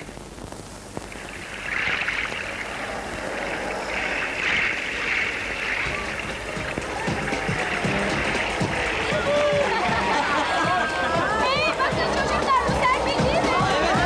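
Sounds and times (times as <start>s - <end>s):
sea waves washing on shore: 1.1s - 14.0s.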